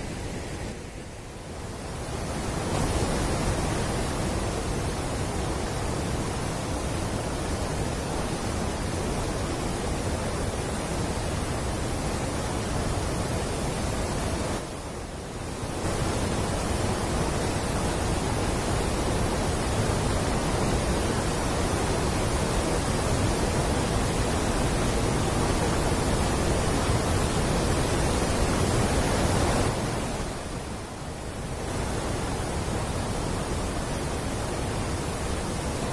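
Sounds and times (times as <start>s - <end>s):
water rushing under sluice gate: 0.0s - 35.9s.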